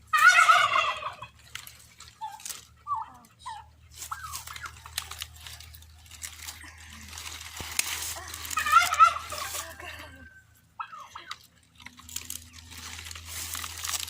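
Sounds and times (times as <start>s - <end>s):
farm fowl calling: 0.0s - 14.0s
rustle and crunch of plants: 0.0s - 14.0s.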